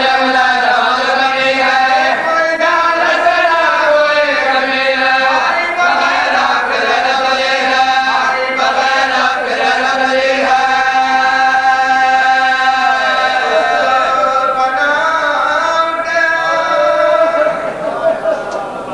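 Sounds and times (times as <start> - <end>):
man chanting unaccompanied: 0.0 - 18.9.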